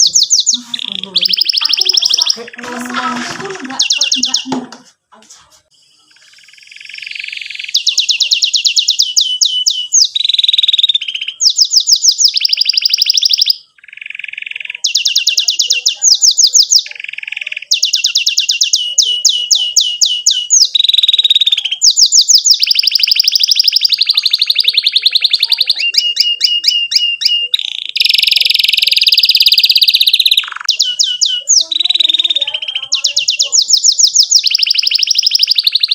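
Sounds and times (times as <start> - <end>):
canary singing trills: 0.0 - 4.8, 5.6 - 35.9.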